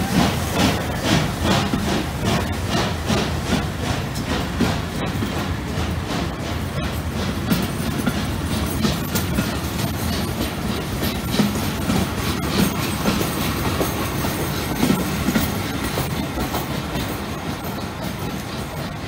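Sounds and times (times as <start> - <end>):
train wheels clattering over rail joints: 0.0 - 19.0.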